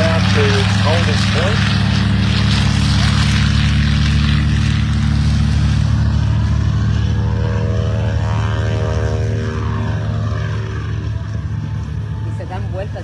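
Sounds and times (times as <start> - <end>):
aircraft propeller engine droning: 0.0 - 13.0
high whine: 0.0 - 13.0.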